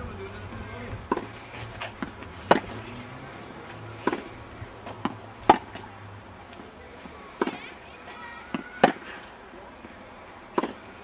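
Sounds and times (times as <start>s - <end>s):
tennis balls bouncing on court: 0.8s - 11.0s
tennis balls struck by rackets: 0.8s - 11.0s.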